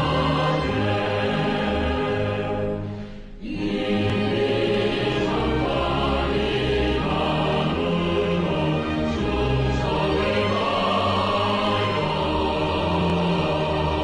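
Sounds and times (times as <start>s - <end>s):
music with choir-like voices: 0.0s - 14.0s.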